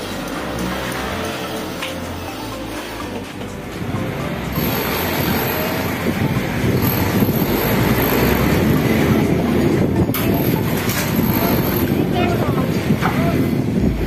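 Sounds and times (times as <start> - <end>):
sliding door rolling on track: 0.0 - 14.0.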